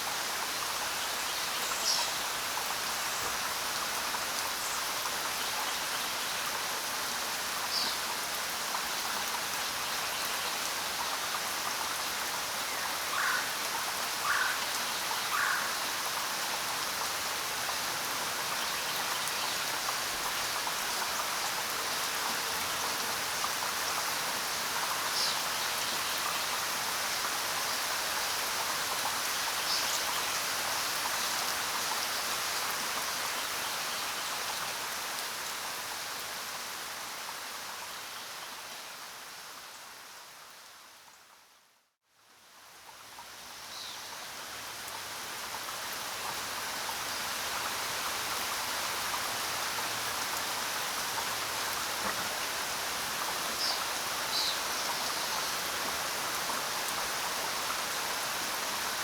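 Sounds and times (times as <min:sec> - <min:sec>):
rain falling: 0:00.0 - 0:41.5, 0:42.3 - 0:59.0.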